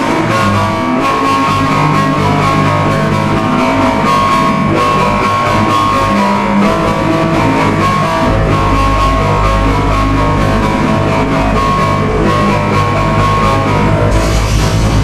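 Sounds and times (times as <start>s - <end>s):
heavy bass line: 0.0s - 15.0s
rock music with guitar: 0.0s - 15.0s.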